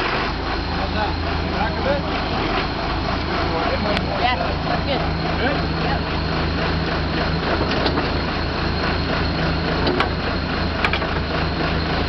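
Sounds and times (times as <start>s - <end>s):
drill rig engine droning: 0.0s - 12.0s.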